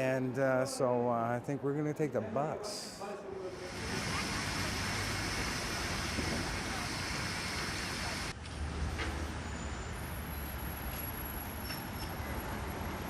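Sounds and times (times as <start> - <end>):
traffic noise with low rumble: 0.0 - 13.0.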